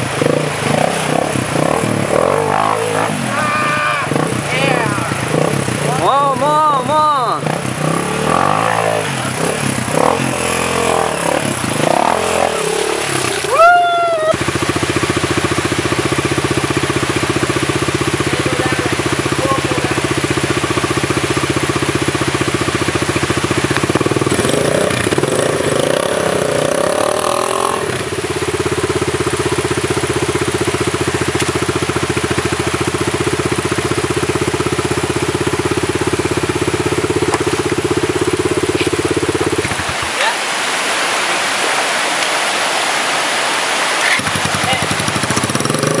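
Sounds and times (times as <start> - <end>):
dirt bike engine revving: 0.0 - 41.7, 42.8 - 46.0.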